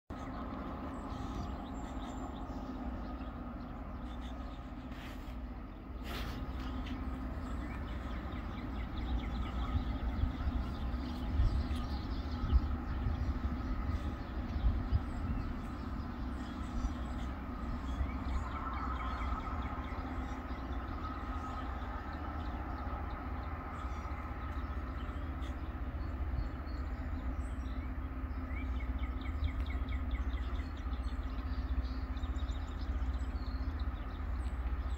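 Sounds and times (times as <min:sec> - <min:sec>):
low engine rumble: 0:00.1 - 0:34.9
rail grinder grinding drone: 0:00.1 - 0:34.9.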